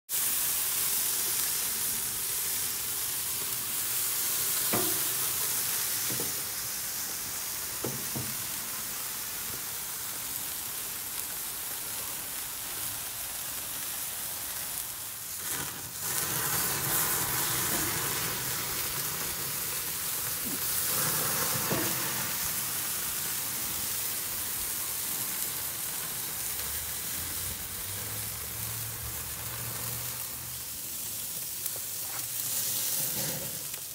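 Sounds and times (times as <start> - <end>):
steaks sizzling on grill: 0.1 - 33.9.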